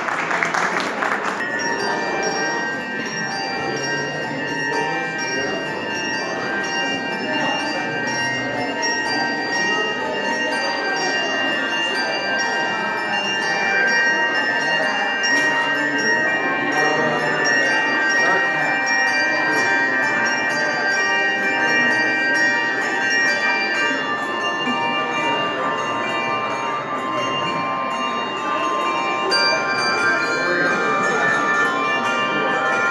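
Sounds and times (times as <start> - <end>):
handbell choir playing: 0.0 - 32.9.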